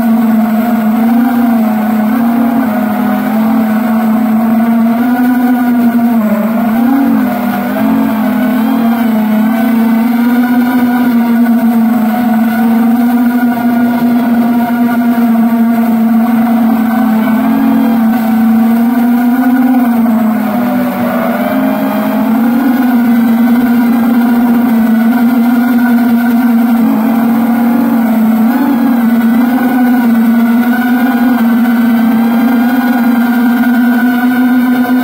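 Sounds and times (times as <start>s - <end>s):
motor humming: 0.0s - 35.0s.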